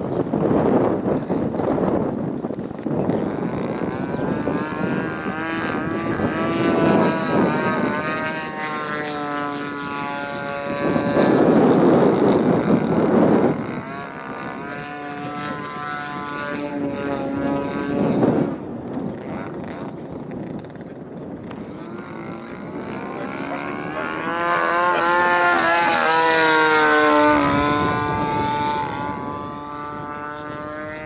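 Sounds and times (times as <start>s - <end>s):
model plane engine: 0.0s - 31.0s.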